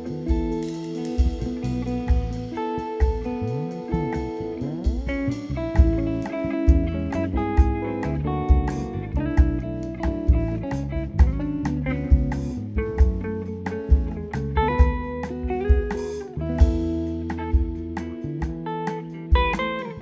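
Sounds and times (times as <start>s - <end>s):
double bass line: 0.0s - 18.7s
percussion hits: 0.0s - 19.9s
guitar playing melody and chords: 0.0s - 20.0s.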